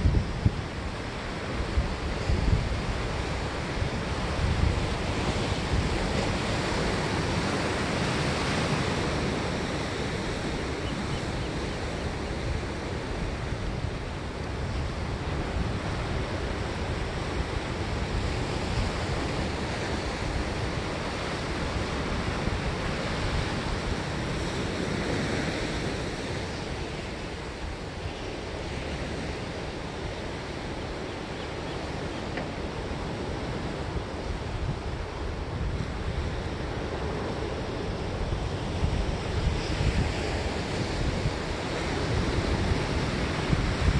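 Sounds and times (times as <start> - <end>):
waves breaking: 0.0 - 43.9.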